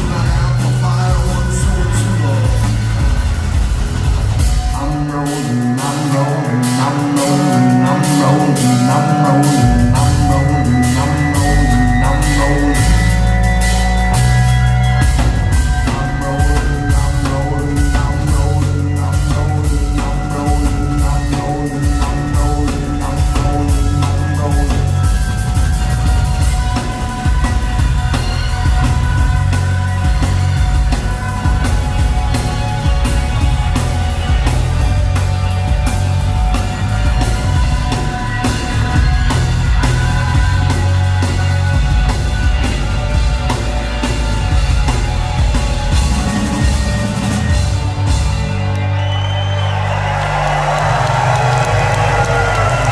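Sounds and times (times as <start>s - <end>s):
drum kit: 0.0s - 52.9s
heavy bass: 0.0s - 52.9s
rock band playing live: 0.0s - 52.9s.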